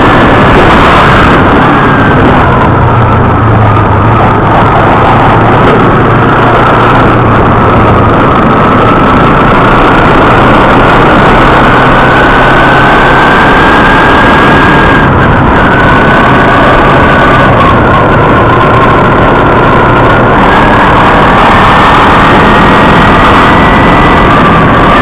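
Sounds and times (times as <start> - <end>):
motorcycle engine cruising: 0.0 - 25.0
wind noise rushing: 0.0 - 25.0.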